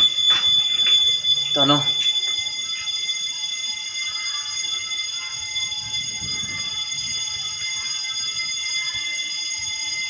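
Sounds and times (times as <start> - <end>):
fire alarm high-pitched tone: 0.0 - 10.0.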